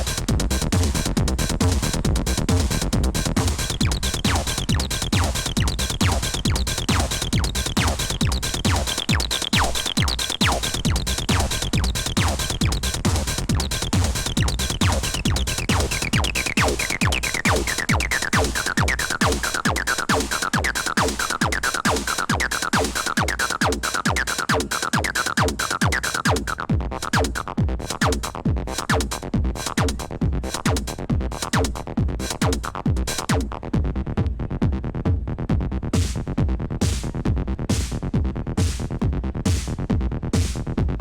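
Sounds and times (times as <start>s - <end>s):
techno kick drum: 0.0s - 41.0s.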